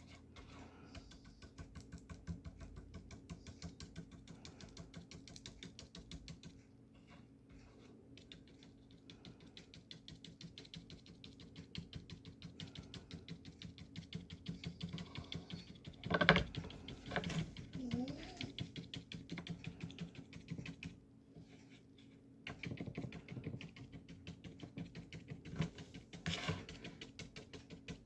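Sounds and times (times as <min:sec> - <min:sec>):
bristle brush tapping paper: 0:00.0 - 0:06.7, 0:07.6 - 0:21.8, 0:22.4 - 0:28.0.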